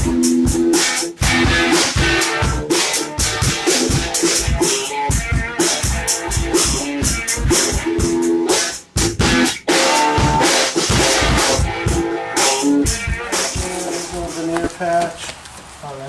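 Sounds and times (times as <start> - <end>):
background music with drum beat: 0.0 - 14.6.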